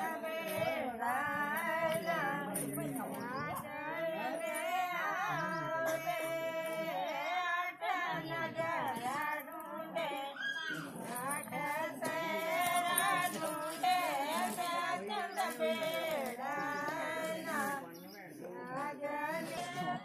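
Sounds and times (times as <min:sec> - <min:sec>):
women singing folk song: 0:00.0 - 0:17.9, 0:18.5 - 0:20.0.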